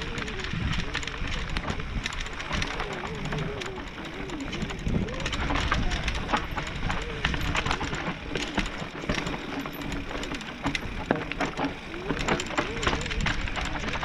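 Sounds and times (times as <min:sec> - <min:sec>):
bike rattling over roots: 0:00.0 - 0:14.0
bike tyres on dirt: 0:00.0 - 0:14.0.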